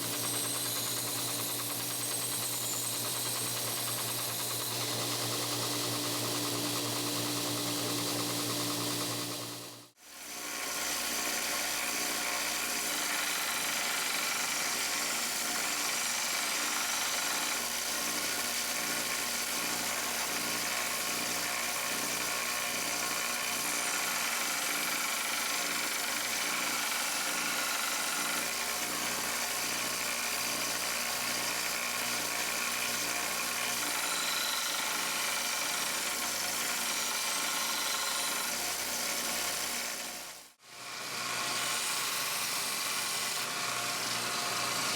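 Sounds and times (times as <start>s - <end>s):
belt grinder grinding steel: 0.0s - 9.3s, 10.6s - 44.9s.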